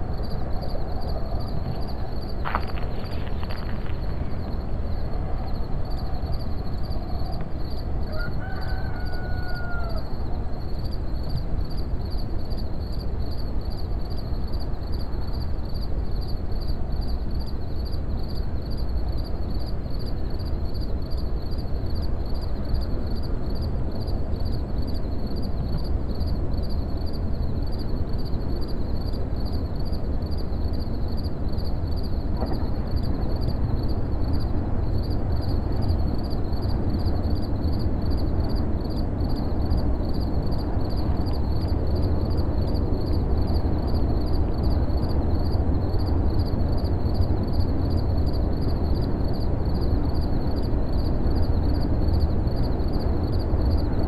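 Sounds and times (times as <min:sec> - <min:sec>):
high insect chorus pulsing: 0:00.0 - 0:54.0.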